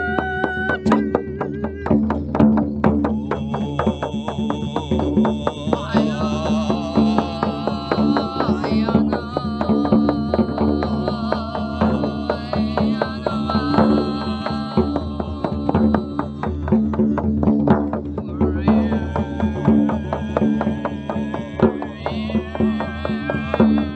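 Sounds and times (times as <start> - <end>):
fast drum strikes: 0.0 - 23.9
person singing: 0.0 - 23.9.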